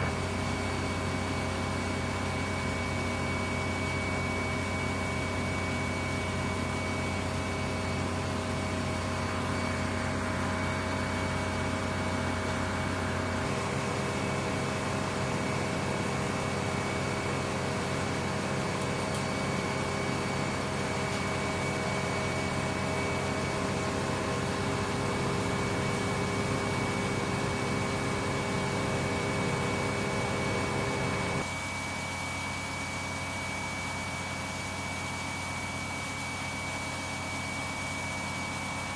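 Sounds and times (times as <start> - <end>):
machinery drone with whining tones: 0.0 - 38.9.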